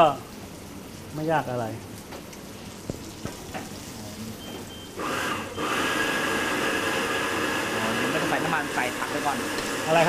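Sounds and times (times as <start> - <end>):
stir-frying hiss in a wok: 0.0 - 10.0.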